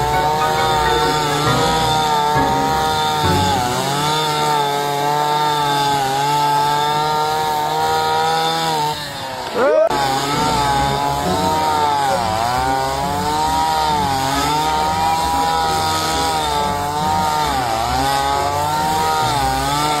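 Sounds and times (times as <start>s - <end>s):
brush cutter motor whine: 0.0s - 20.0s.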